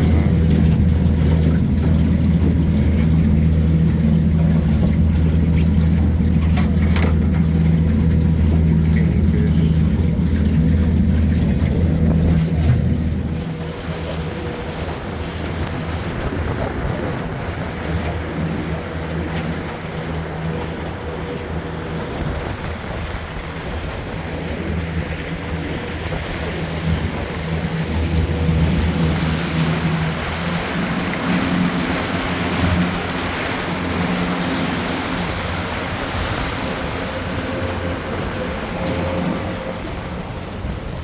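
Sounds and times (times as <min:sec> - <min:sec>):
boat motor running: 0:00.0 - 0:41.0
water wash: 0:00.0 - 0:41.0
wind buffeting microphone: 0:00.0 - 0:41.0.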